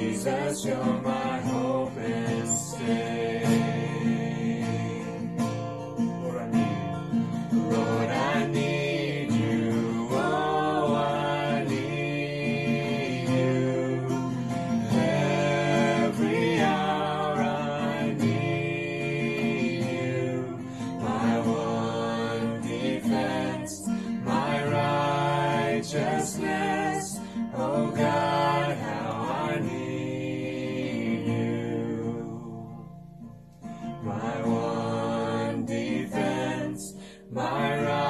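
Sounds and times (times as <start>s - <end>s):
man and women singing: 0.0s - 5.6s, 6.3s - 32.9s, 33.8s - 38.0s
acoustic guitar strumming: 0.0s - 38.0s.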